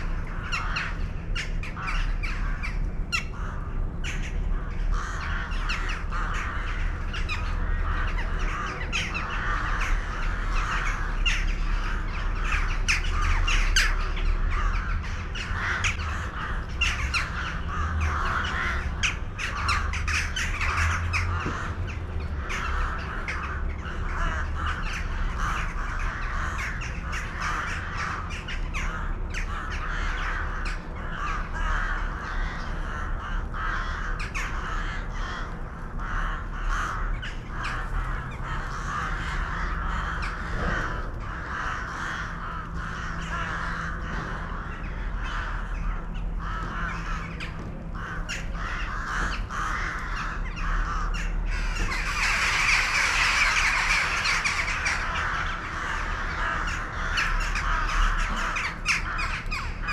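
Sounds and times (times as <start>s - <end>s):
flock of birds calling: 0.0s - 59.9s
steady low rumble: 0.0s - 59.9s.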